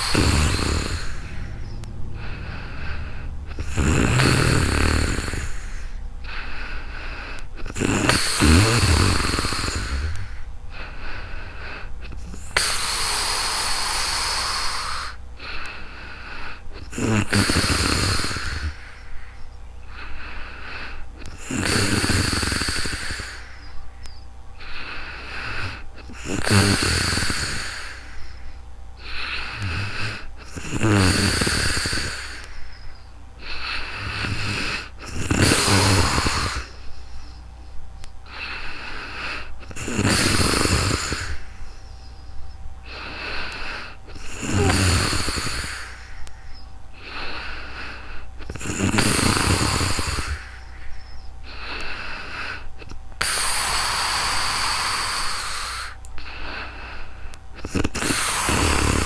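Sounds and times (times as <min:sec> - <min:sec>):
woman snoring: 0:00.0 - 0:19.1, 0:19.9 - 0:23.8, 0:24.6 - 0:32.8, 0:33.4 - 0:37.4, 0:38.3 - 0:41.9, 0:42.8 - 0:46.2, 0:47.0 - 0:50.7, 0:51.5 - 0:59.0.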